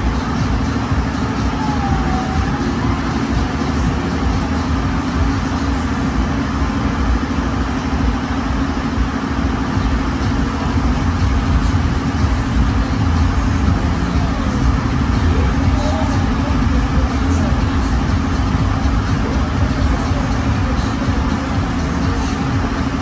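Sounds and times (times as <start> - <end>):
machinery humming and rumbling: 0.0 - 23.0.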